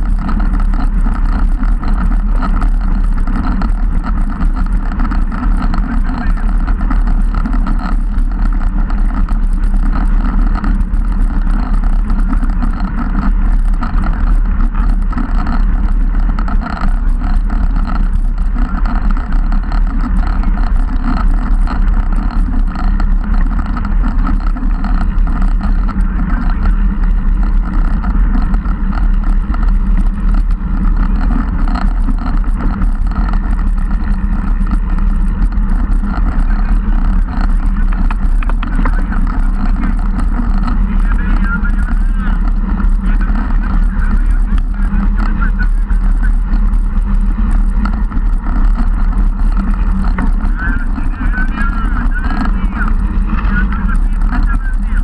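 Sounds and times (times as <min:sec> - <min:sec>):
tyres rumbling on tarmac: 0:00.0 - 0:55.0.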